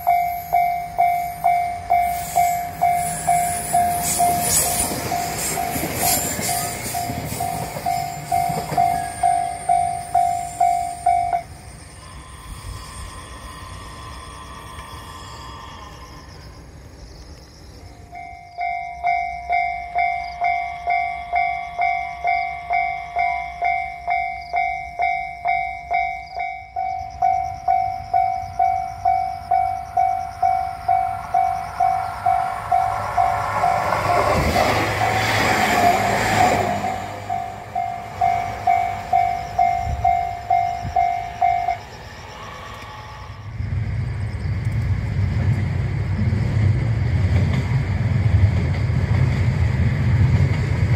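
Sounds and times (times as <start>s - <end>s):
level crossing warning bell: 0.0s - 16.1s, 18.0s - 42.6s
train passing: 0.0s - 50.9s.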